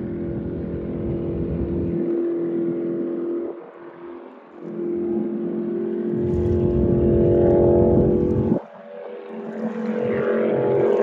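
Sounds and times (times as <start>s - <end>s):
jet boat engine running hard: 0.0s - 11.0s.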